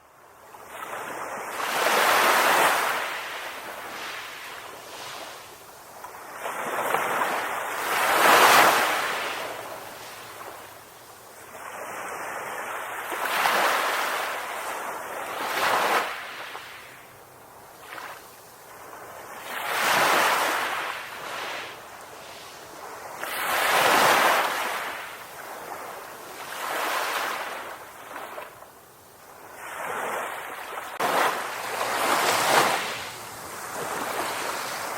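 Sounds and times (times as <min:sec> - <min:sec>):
sea waves breaking on beach: 0:00.5 - 0:34.9.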